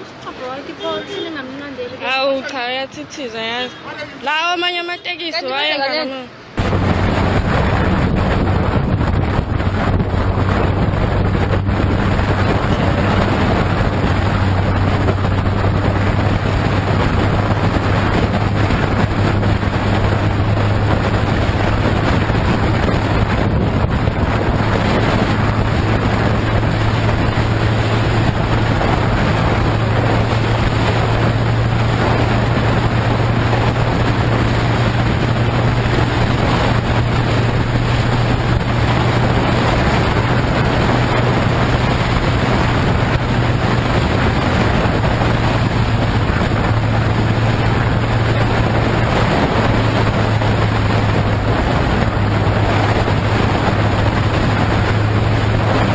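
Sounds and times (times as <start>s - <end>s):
motorcycle engine drone: 6.4s - 55.9s
wind noise on microphone: 6.4s - 55.9s.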